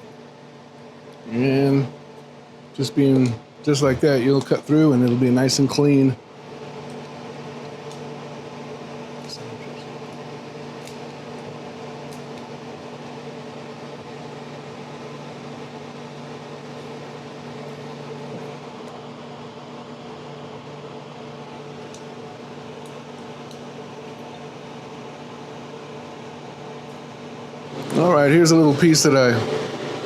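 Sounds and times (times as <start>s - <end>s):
motor-driven fan humming: 0.0s - 30.0s.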